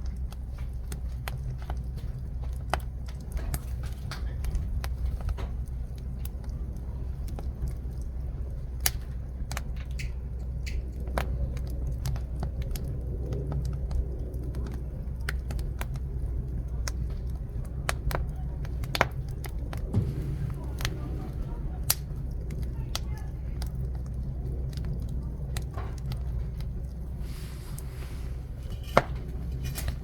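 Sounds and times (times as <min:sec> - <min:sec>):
steady low rumble: 0:00.0 - 0:30.0
wood fire crackling: 0:00.0 - 0:30.0.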